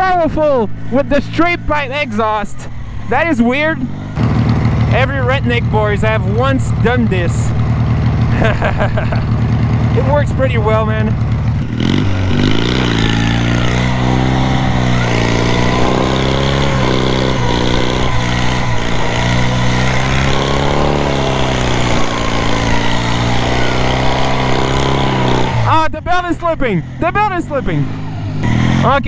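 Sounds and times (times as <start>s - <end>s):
lawn mower engine running: 0.6s - 25.9s.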